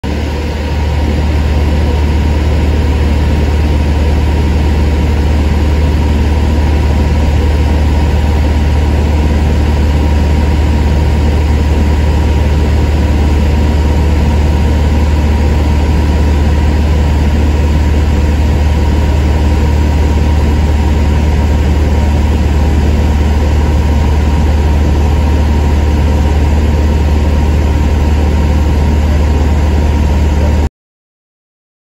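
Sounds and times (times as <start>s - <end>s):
aircraft engine drone: 0.0s - 30.7s.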